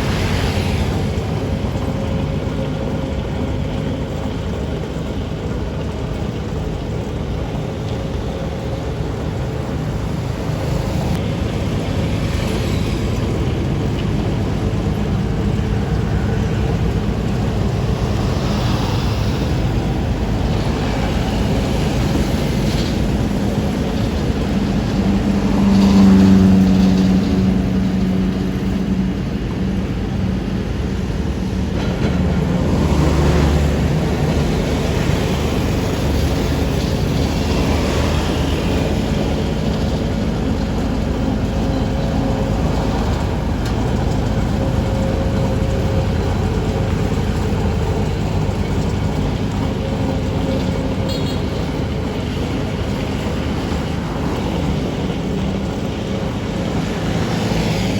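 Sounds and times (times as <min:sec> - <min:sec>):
diesel engines of paving machinery: 0:00.0 - 0:57.9.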